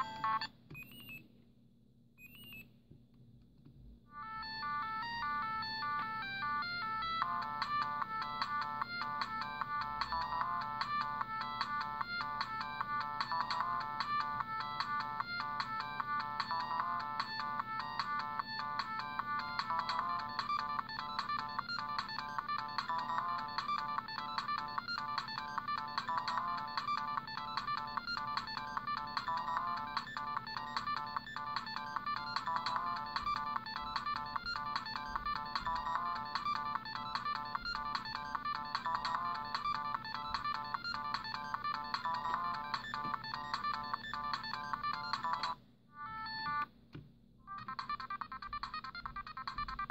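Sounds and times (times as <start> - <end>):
electronic ringtone melody: 0.0 - 1.2, 4.2 - 46.7, 47.5 - 49.9.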